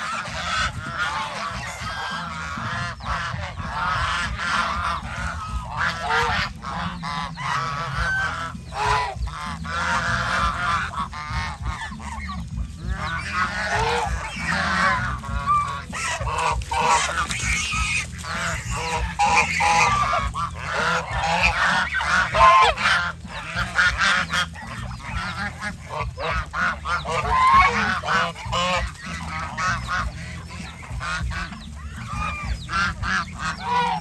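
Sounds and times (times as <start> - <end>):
geese honking: 0.0 - 34.0
steady low rumble: 0.0 - 34.0.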